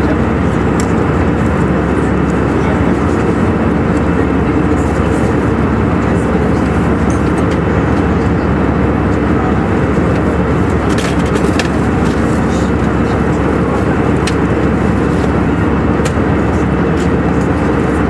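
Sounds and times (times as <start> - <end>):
airliner cabin engine rush: 0.0 - 18.0.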